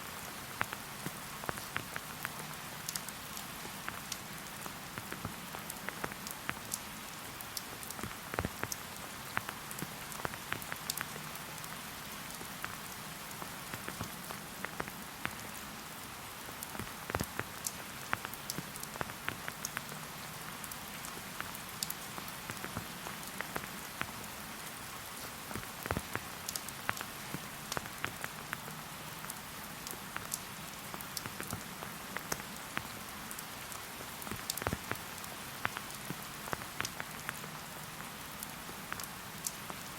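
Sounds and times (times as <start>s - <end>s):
steady rain hiss: 0.0s - 39.9s
raindrops ticking: 0.1s - 39.9s.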